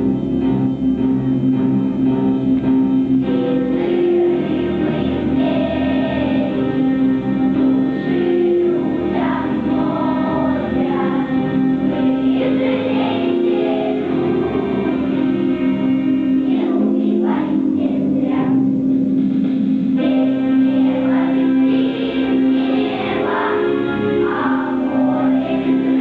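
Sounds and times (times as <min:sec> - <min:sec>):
musical accompaniment: 0:00.0 - 0:26.0
children's choir singing: 0:03.2 - 0:18.8, 0:19.9 - 0:26.0.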